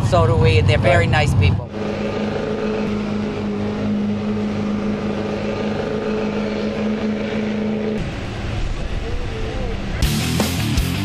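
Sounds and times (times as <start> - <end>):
truck engine running hard: 0.0 - 11.0.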